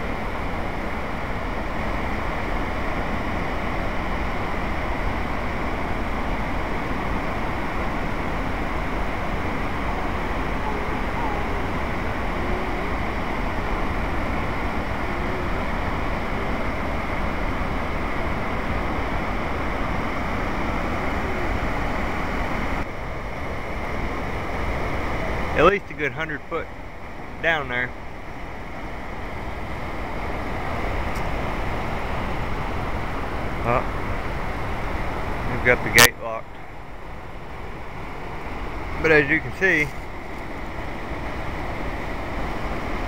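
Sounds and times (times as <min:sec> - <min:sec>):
rapids rushing over rocks: 0:00.0 - 0:43.0.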